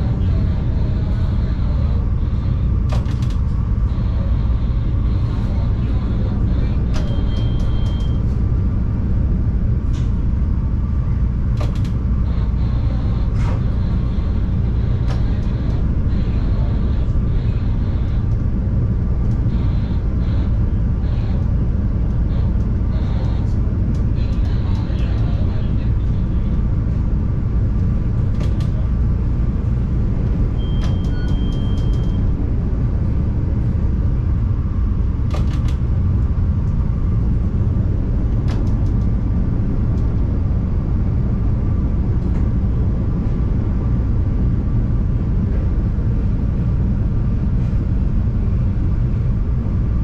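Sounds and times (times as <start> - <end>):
train rumbling at speed: 0.0 - 50.0.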